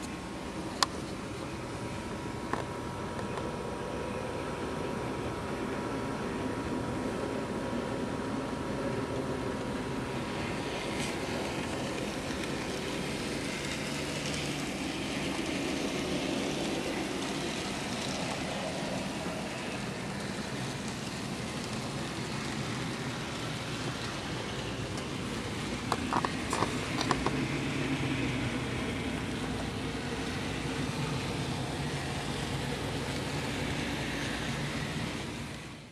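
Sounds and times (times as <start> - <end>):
model train running on track: 0.0 - 35.9.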